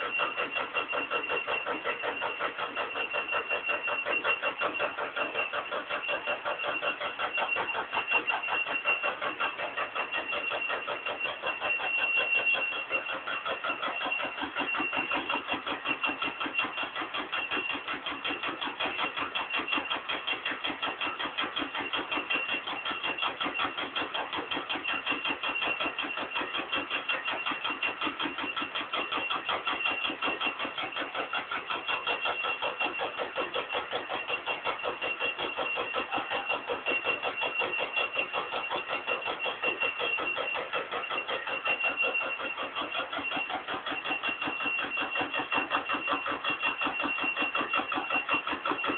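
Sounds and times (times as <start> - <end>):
stamping press pulsing: 0.0 - 48.9.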